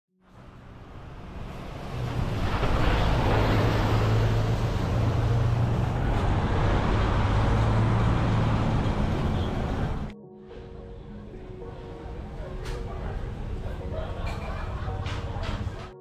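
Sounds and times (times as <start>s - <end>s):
passing cars: 0.2s - 16.0s
bus engine humming: 0.4s - 16.0s.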